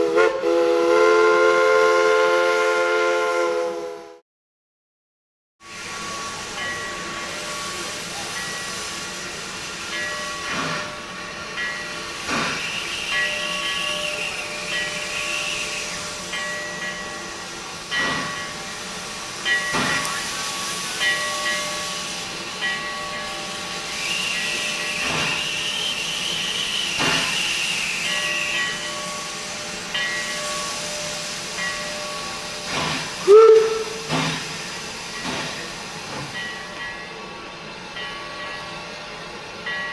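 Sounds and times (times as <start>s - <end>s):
steam hissing from cylinder cocks: 5.6s - 39.9s
steam locomotive chuff: 5.7s - 39.9s.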